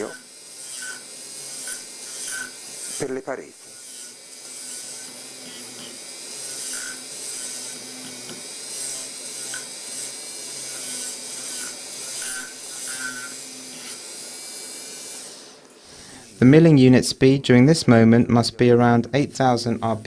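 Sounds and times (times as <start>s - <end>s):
cutter squealing: 0.0s - 16.9s
dental micromotor grinding metal: 0.0s - 17.0s.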